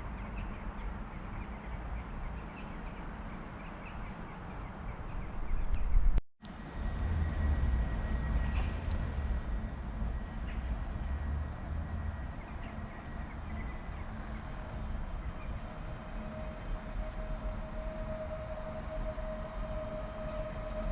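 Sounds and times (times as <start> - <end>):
train rumbling past: 3.0 - 20.9.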